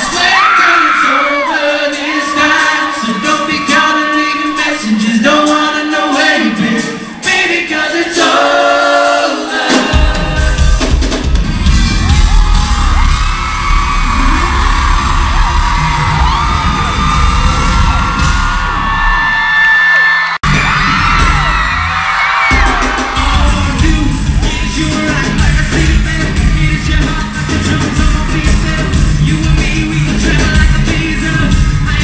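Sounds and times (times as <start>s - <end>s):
crowd whooping and yelling: 0.0s - 7.3s, 11.4s - 32.0s
lead singer: 0.0s - 19.4s, 20.5s - 32.0s
live pop band: 0.0s - 19.7s, 20.4s - 32.0s.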